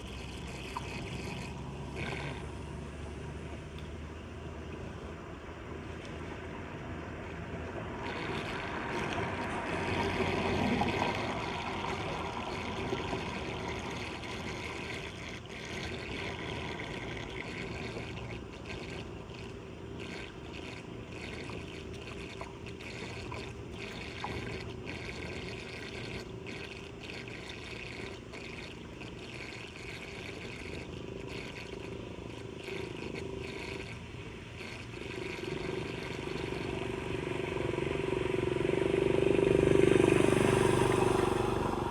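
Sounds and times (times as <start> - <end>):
floodwater running into storm drain: 0.0 - 3.9, 7.1 - 41.9.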